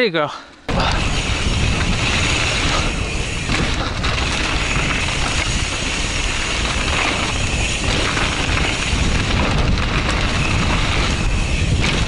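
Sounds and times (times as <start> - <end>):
bike rattling over ground: 0.7 - 12.0
wind buffeting microphone: 0.7 - 12.0.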